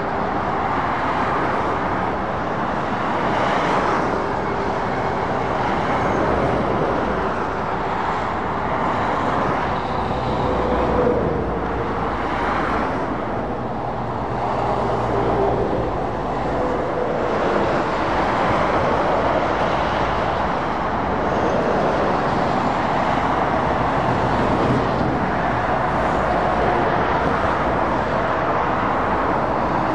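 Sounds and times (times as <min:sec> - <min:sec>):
engines droning: 0:00.0 - 0:29.9
tyres rushing on road: 0:00.0 - 0:29.9.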